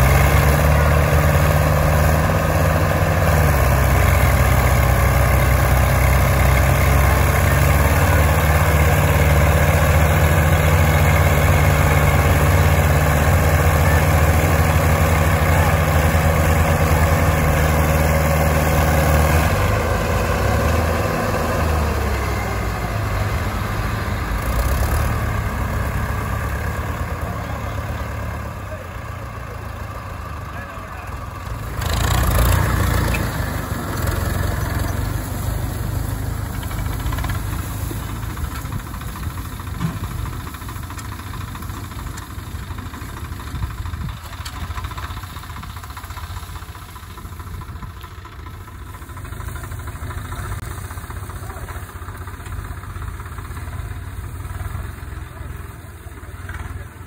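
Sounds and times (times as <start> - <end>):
tractor diesel engines straining: 0.0 - 57.0.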